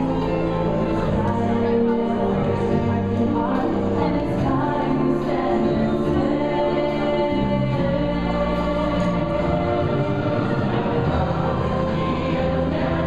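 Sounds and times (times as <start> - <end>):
choir singing long notes: 0.0 - 13.0.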